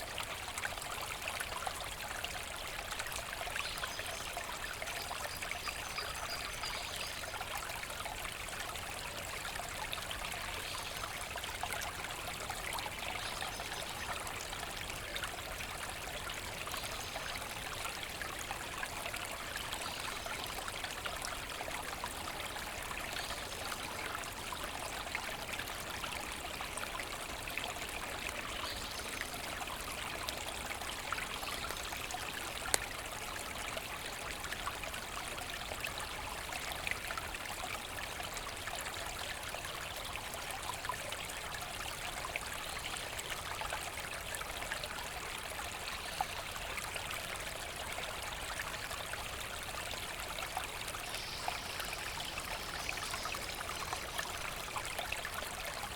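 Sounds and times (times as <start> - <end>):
brook trickling over stones: 0.0 - 55.9.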